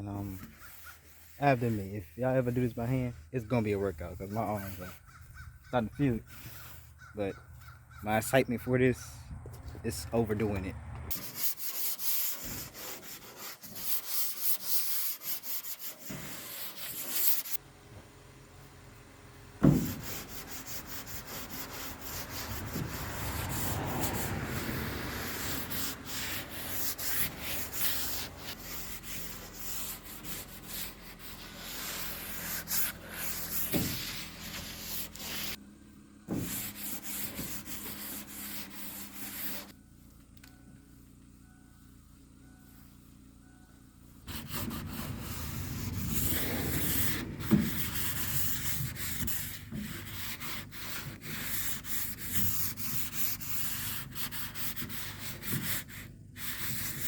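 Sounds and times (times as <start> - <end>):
sandpaper rubbing on metal: 0.1 - 7.7, 11.1 - 17.6, 19.6 - 35.6, 36.3 - 39.8, 44.3 - 57.0.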